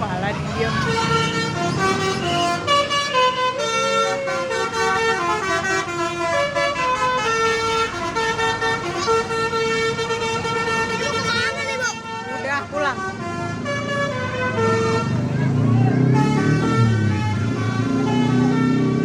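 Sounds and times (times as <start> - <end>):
musical vehicle horn playing a tune: 0.5 - 19.0.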